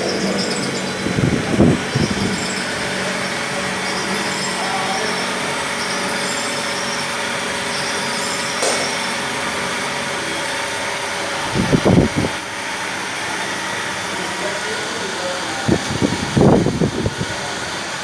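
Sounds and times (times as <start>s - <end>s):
machine mechanical hum: 0.0s - 18.0s.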